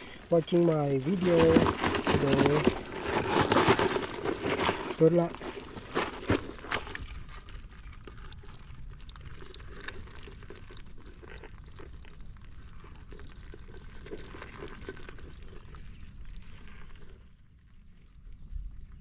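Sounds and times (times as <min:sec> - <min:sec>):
wet mud crackling and popping: 0:00.0 - 0:17.3.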